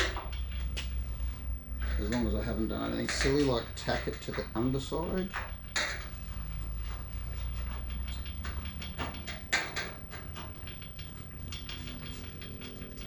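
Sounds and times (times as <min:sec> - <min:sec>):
metallic clicks and scrapes: 0:00.0 - 0:13.0
steady low hum: 0:00.0 - 0:13.0.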